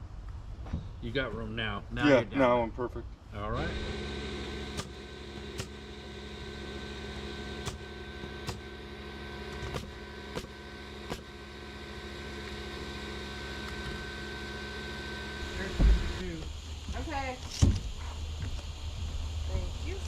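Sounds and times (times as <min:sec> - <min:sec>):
small engine humming: 0:03.4 - 0:20.0.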